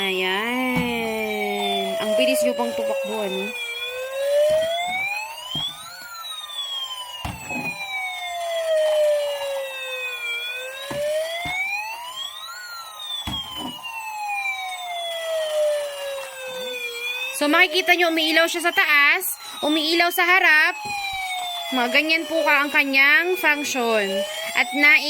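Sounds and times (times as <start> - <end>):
toy siren wailing: 0.0 - 25.0.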